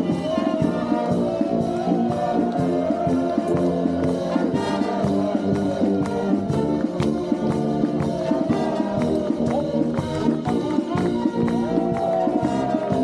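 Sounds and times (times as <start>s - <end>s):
brass band playing a march: 0.0s - 13.0s
steady drum beat: 0.0s - 13.0s.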